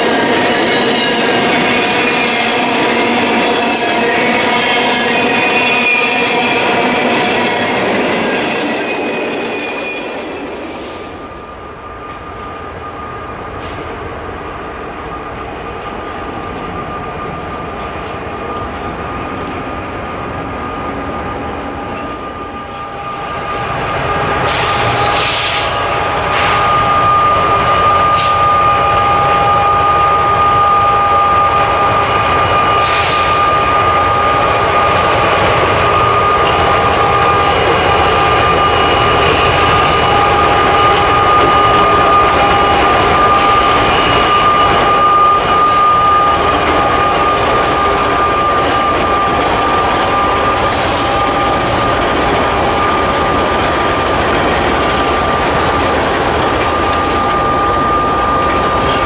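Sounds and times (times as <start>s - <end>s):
high-pitched wheel squeal: 0.0s - 59.0s
train engine rumble: 0.0s - 59.0s.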